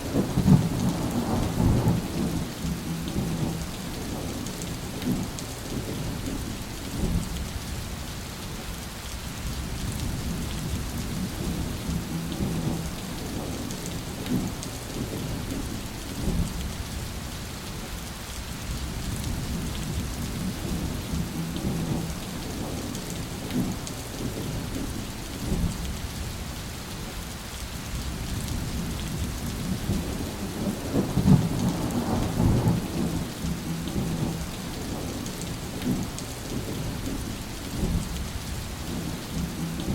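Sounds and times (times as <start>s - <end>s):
thunder rumbling: 0.0s - 7.4s, 9.6s - 16.7s, 18.8s - 25.9s, 28.0s - 39.9s
steady rain: 0.0s - 39.9s.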